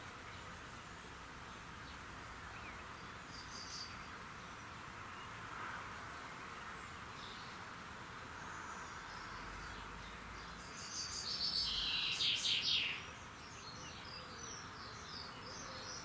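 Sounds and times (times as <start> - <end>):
background bird chorus: 0.0 - 16.0.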